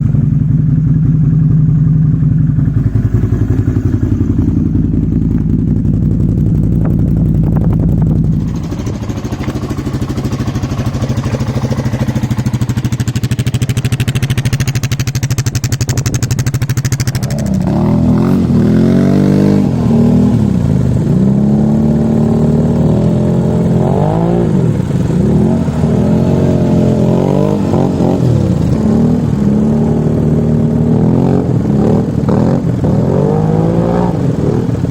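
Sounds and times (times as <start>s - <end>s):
small engine running and revving: 2.7s - 34.9s.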